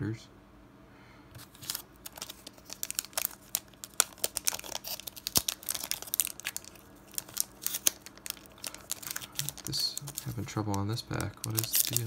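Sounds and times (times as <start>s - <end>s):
foil wrapper crinkling: 1.4s - 12.0s.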